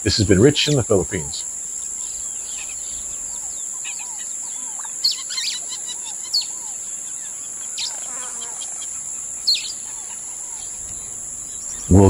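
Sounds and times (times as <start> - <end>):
birds chirping: 0.0 - 12.0
high-pitched insect drone: 0.0 - 12.0.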